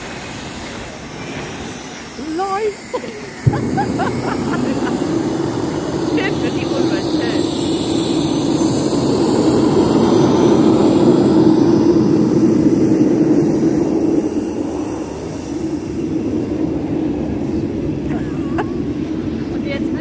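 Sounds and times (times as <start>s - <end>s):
high turbine whine: 0.0s - 20.0s
small jet turbine running: 0.0s - 20.0s.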